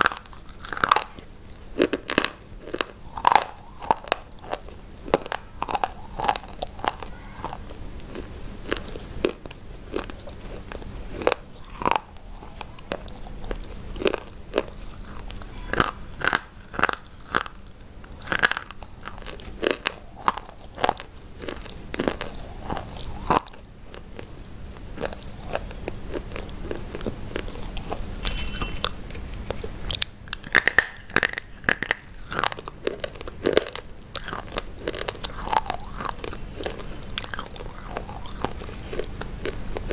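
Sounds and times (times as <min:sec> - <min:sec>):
crunching brittle chalk sticks: 0:00.0 - 0:39.9
quiet chewing: 0:00.0 - 0:39.9.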